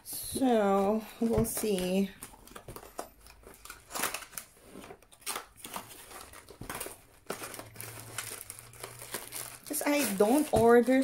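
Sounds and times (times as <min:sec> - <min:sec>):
packaging rustling and crinkling: 0:00.1 - 0:11.0.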